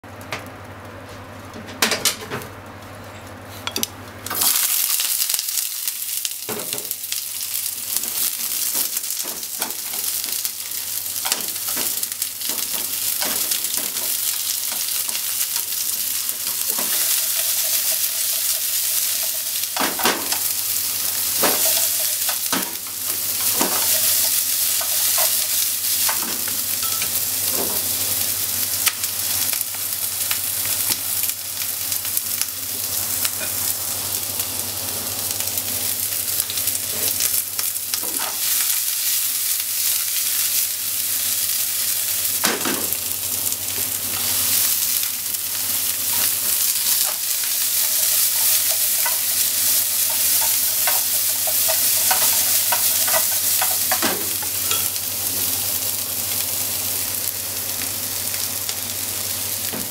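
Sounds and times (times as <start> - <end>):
onions sizzling in hot oil: 4.2 - 59.9.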